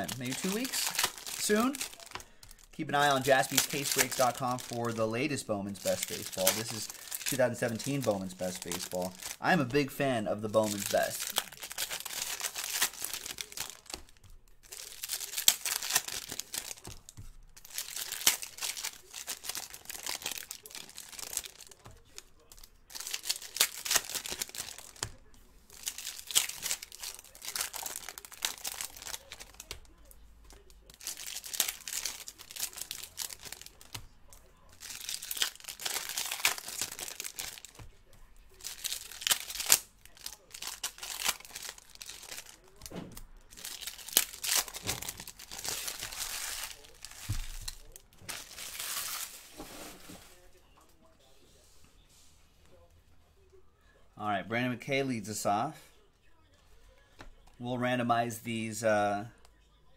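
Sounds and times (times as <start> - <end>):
foil wrappers tearing and crinkling: 0.0 - 50.5.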